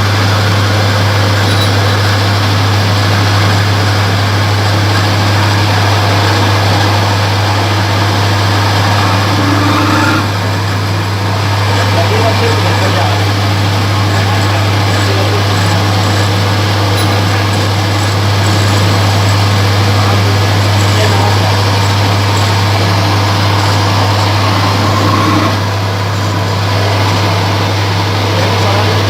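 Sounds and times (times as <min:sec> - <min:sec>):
electric lathe running: 0:00.0 - 0:29.0.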